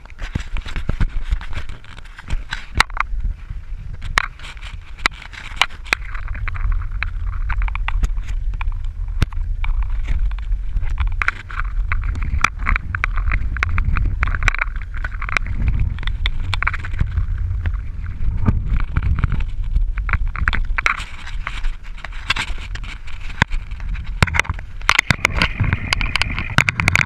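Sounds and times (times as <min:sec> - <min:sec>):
bicycle clicks and rattles: 0:00.0 - 0:27.0
wind buffeting microphone: 0:00.0 - 0:27.0.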